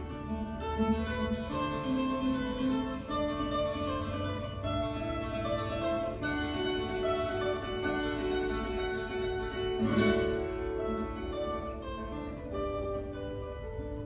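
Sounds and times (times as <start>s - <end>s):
classical guitar playing: 0.0s - 14.0s.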